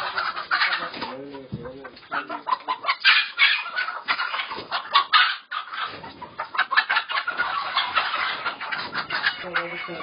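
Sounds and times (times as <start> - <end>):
hens clucking and squawking: 0.0 - 10.0.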